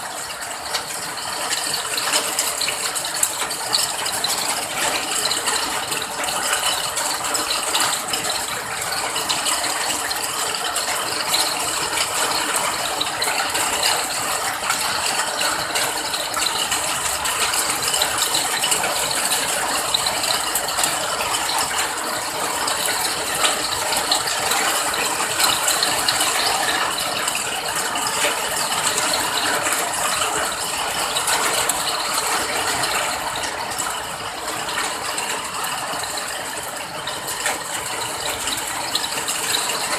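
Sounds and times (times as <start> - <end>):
rain crackling on surface: 0.0 - 39.9.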